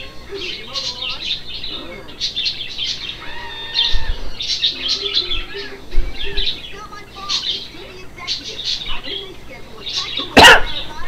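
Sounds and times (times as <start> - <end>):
cartoon monkeys screeching: 0.0 - 9.2
chirping calls: 0.0 - 11.0.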